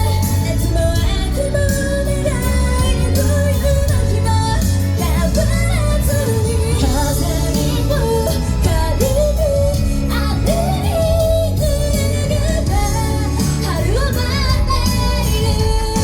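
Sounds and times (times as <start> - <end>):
pop backing with steady beat: 0.0 - 16.0
women singing: 0.0 - 16.0.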